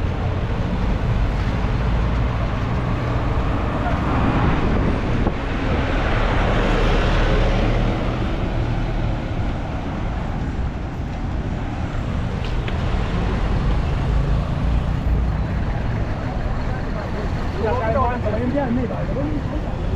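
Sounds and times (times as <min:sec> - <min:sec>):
road traffic: 0:00.0 - 0:19.9.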